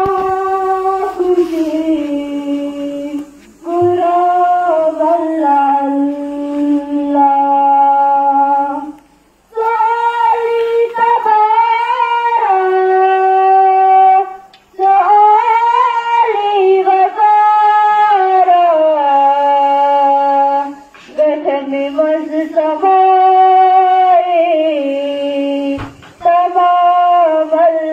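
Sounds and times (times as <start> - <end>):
person singing unaccompanied: 0.0 - 27.9.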